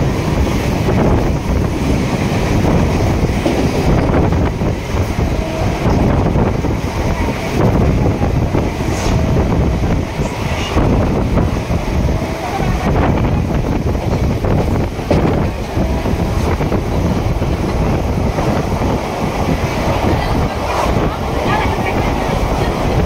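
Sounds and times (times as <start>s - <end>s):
electric train rumbling and rattling: 0.0s - 23.0s
wind buffeting microphone: 0.0s - 23.0s.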